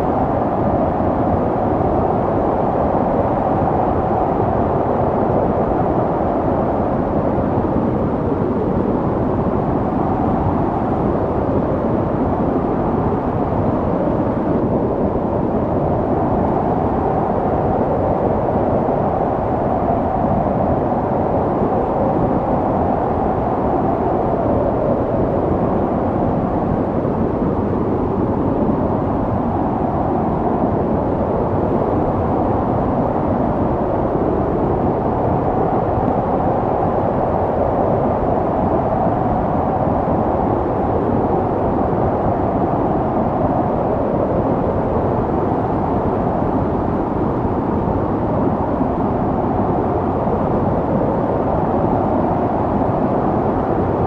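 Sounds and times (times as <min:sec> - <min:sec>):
snowstorm wind blowing: 0:00.0 - 0:54.0.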